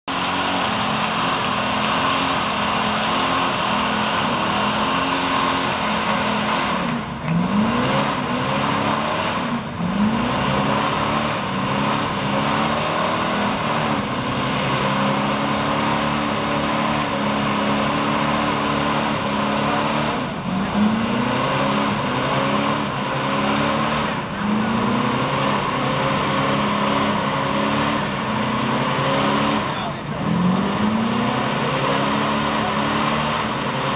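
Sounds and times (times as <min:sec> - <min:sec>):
truck engine at high revs: 0:00.0 - 0:33.9.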